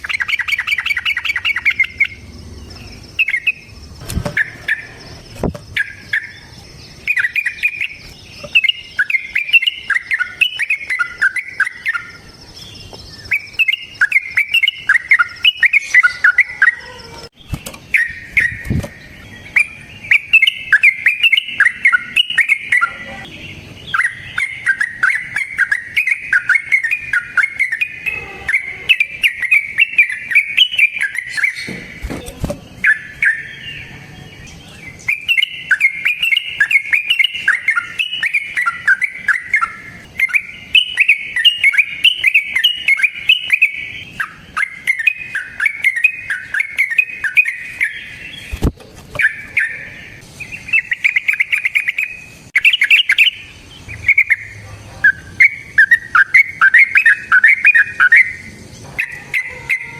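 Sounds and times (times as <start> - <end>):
bird singing bubbling song: 0.0 - 59.9.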